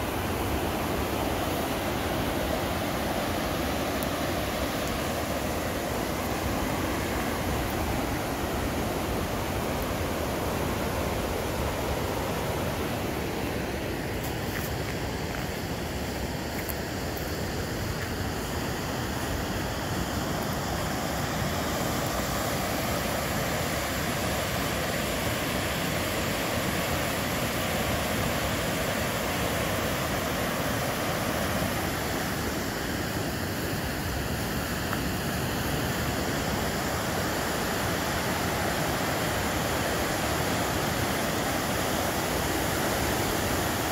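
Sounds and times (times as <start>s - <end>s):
river rapids rushing: 0.0s - 43.9s.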